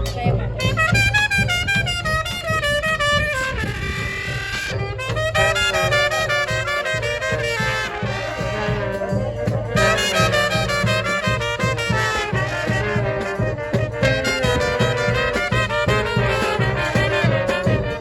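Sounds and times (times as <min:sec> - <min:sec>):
upbeat swing brass music: 0:00.0 - 0:18.0.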